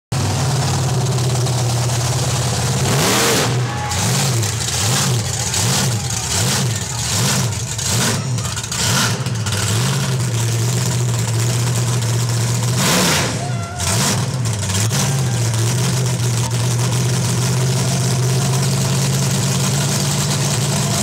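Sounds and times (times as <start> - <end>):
truck engine idling and revving: 0.1 - 21.0.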